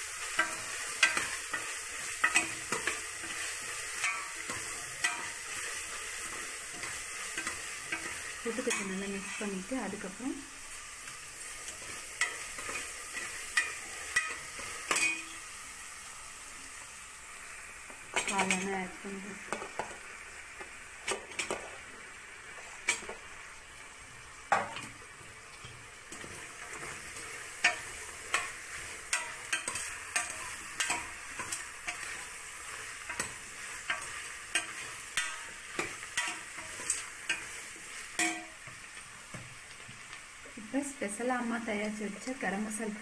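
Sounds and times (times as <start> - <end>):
food sizzling in pot: 0.0 - 43.0.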